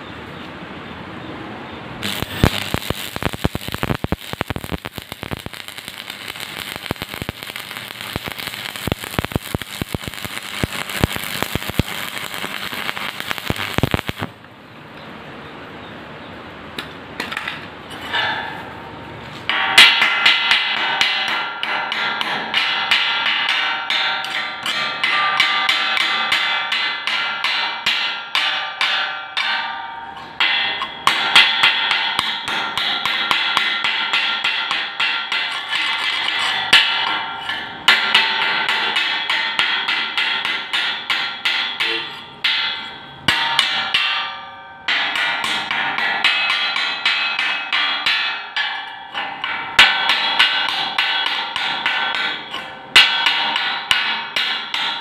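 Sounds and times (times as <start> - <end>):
chipping hammer striking steel: 2.0 - 14.3, 19.5 - 55.0.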